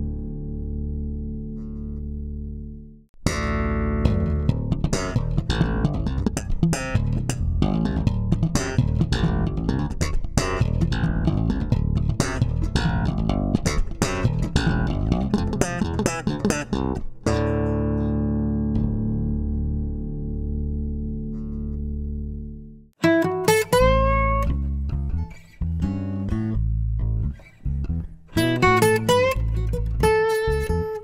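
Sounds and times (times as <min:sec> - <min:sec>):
electric bass guitar plucked notes: 0:00.0 - 0:31.0.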